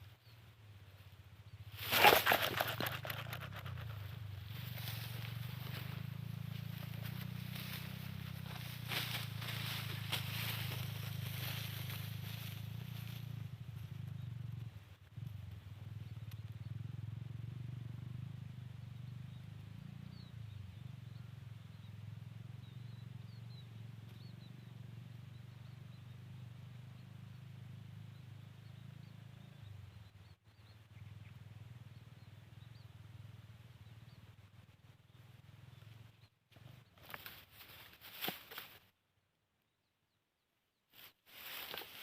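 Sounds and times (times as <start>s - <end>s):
small birds chirping: 0.0s - 17.0s, 18.6s - 38.8s
low steady rumble: 2.9s - 37.3s.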